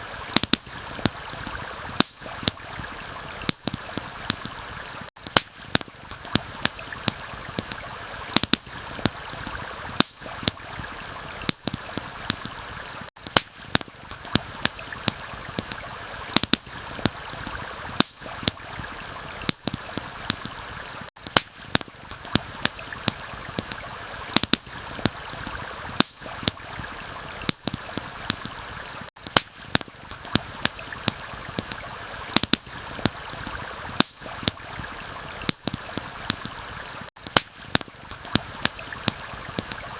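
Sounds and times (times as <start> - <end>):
campfire crackling and popping: 0.0 - 39.9
running stream: 0.0 - 39.9.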